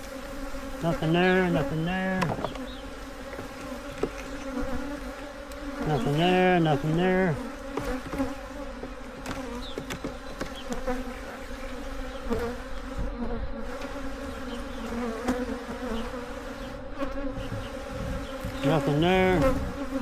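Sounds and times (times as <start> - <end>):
honeybees buzzing: 0.0 - 20.0
light knocks of hive frames: 0.0 - 20.0.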